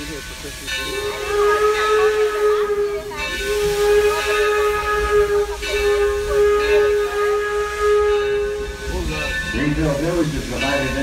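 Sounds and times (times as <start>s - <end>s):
steam hissing: 0.0s - 11.0s
steam locomotive whistle: 0.0s - 11.0s.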